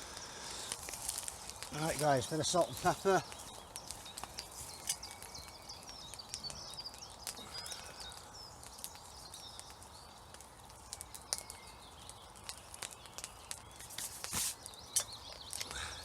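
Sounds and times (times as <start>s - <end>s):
faint steady hiss: 0.0s - 16.0s
small birds chirping: 0.0s - 16.0s
sharp clicks and crackles: 0.1s - 15.8s.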